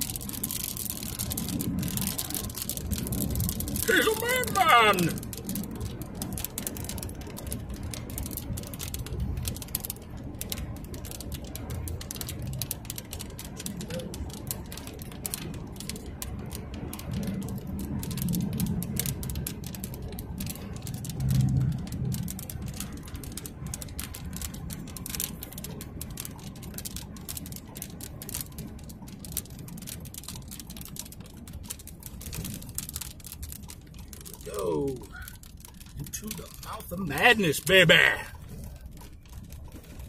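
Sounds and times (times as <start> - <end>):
small sharp ticks: 0.0 - 3.9, 5.1 - 40.0
vehicle rumbling on dirt road: 0.0 - 40.0.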